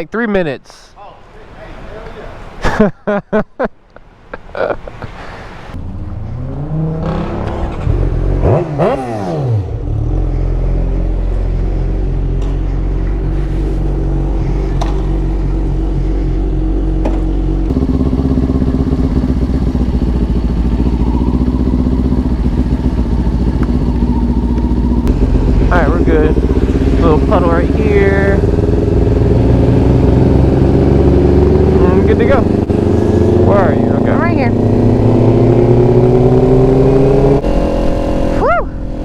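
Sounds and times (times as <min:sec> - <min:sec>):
motorcycle engine: 0:05.7 - 0:39.0.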